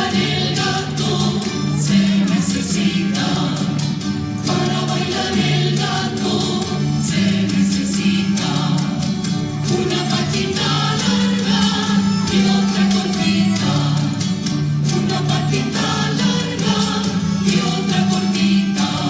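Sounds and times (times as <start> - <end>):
quick rhythmic strokes: 0.0 - 19.0
voices singing together: 0.0 - 19.0.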